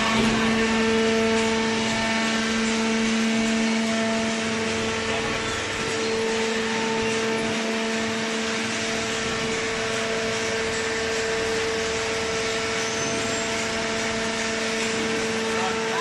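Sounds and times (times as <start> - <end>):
hydraulic pump motor humming: 0.0 - 16.0.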